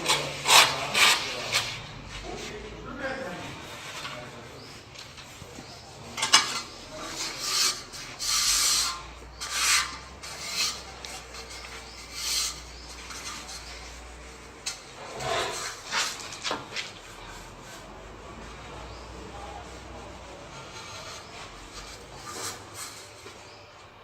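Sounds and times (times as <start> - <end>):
tool scraping mortar and tile: 0.0 - 23.7.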